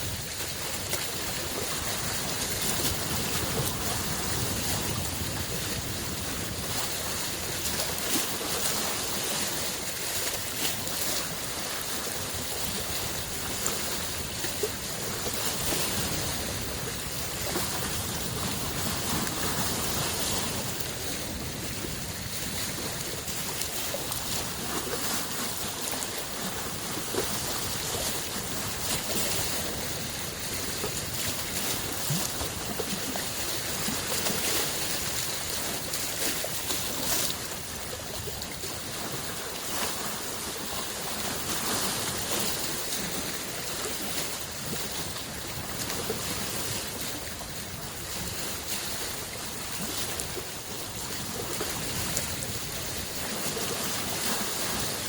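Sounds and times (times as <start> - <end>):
lake waves washing in: 0.0 - 55.0.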